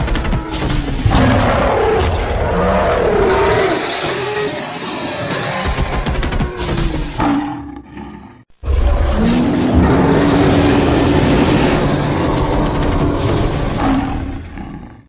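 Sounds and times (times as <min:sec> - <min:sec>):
creature growling roar: 0:01.1 - 0:15.0.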